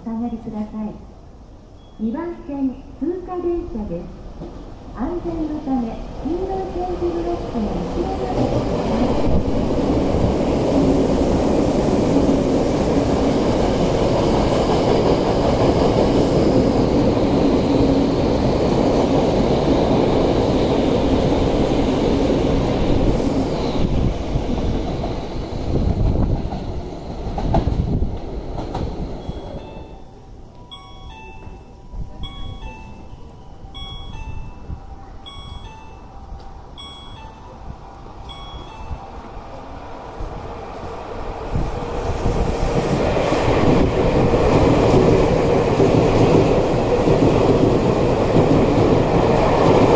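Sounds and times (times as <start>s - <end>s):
electric train rumbling past: 0.0s - 49.9s
second train approaching: 0.0s - 49.9s.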